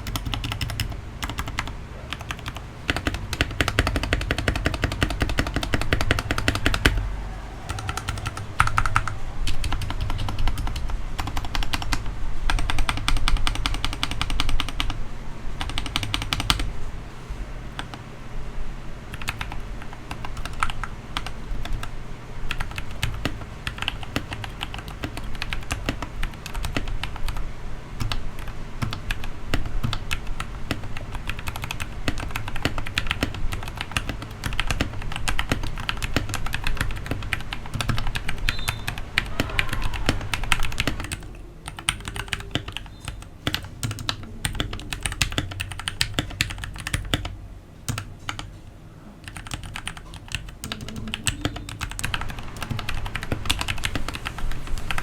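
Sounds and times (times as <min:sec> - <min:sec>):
mechanical keyboard typing: 0:00.0 - 0:07.0, 0:07.7 - 0:15.0, 0:15.6 - 0:16.7, 0:19.1 - 0:21.9, 0:22.5 - 0:27.4, 0:28.0 - 0:48.6, 0:49.2 - 0:55.0.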